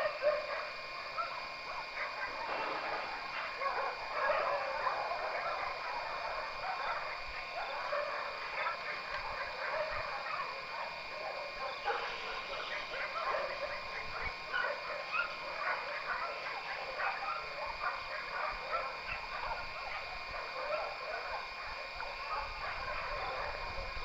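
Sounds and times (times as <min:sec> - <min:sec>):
dogs barking and yipping: 0:00.0 - 0:24.0
faint steady tones: 0:00.0 - 0:24.0.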